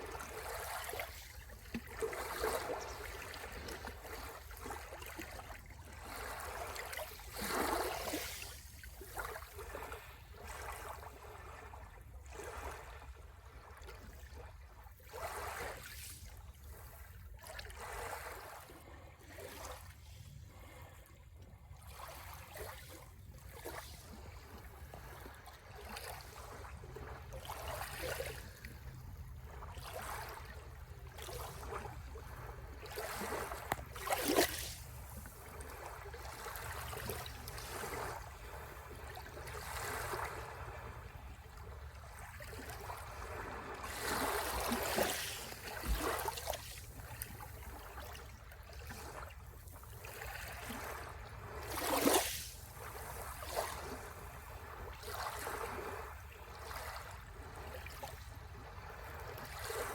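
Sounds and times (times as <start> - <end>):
sea waves breaking on shore: 0.0 - 13.8, 14.6 - 21.3, 21.9 - 59.9.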